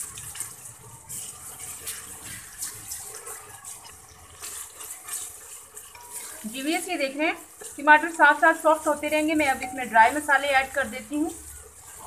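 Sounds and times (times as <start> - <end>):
plastic spatula scraping a pot: 0.0 - 12.0
vegetables sizzling in oil: 0.0 - 12.0.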